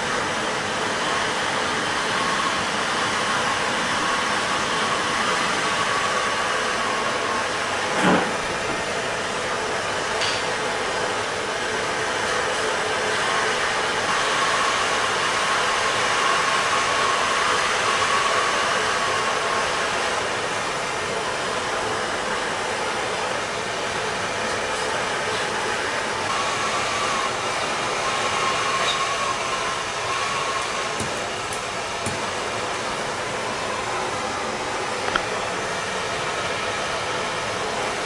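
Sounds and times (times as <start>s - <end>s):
gas torch flame hissing: 0.0s - 38.0s.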